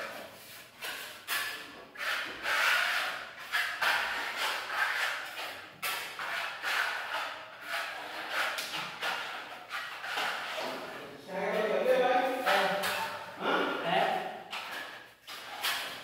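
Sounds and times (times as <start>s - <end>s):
trowel scraping a wall: 0.0s - 13.3s, 14.5s - 16.0s.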